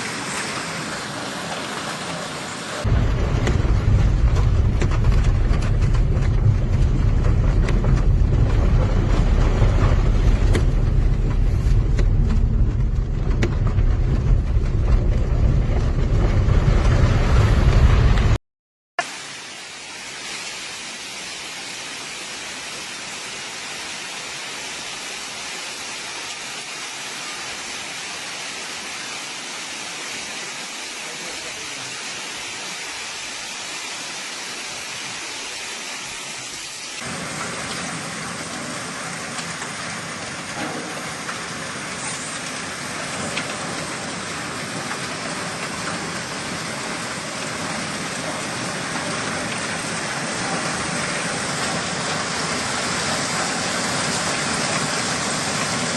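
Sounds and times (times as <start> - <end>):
rushing flood water: 0.0 - 18.4, 19.0 - 55.9.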